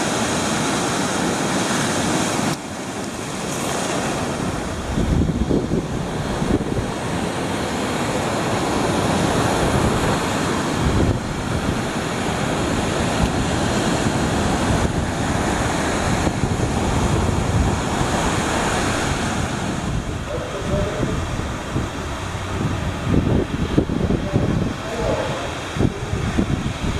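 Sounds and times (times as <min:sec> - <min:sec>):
surf breaking on gravel beach: 0:00.0 - 0:26.9
wind buffeting microphone: 0:00.0 - 0:26.9.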